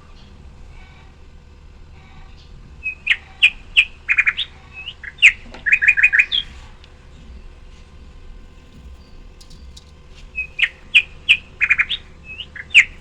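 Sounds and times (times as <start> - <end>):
small birds chirping: 2.2 - 13.0.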